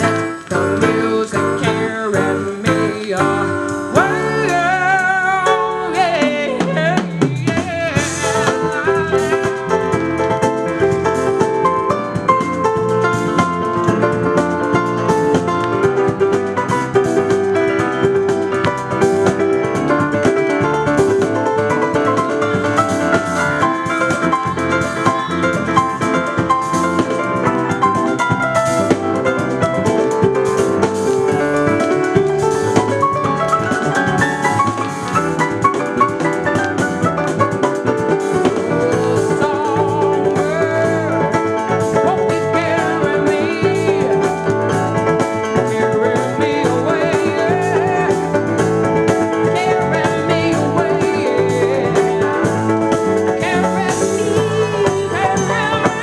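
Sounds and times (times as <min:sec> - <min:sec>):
jazz band playing: 0:00.0 - 0:56.0.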